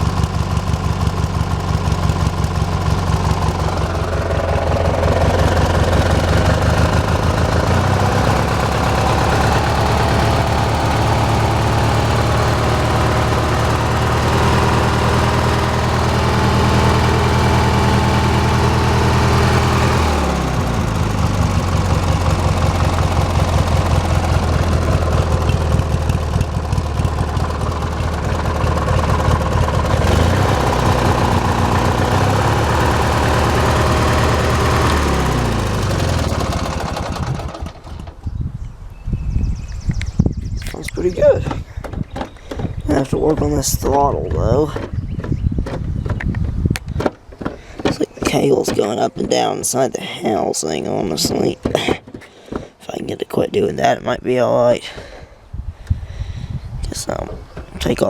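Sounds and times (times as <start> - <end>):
riding lawn tractor engine: 0.0 - 58.0.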